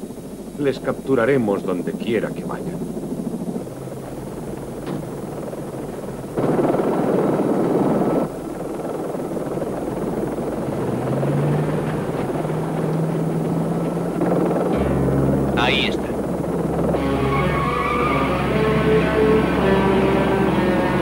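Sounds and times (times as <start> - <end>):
helicopter engine and rotor: 0.0 - 21.0
low steady hum: 0.0 - 21.0.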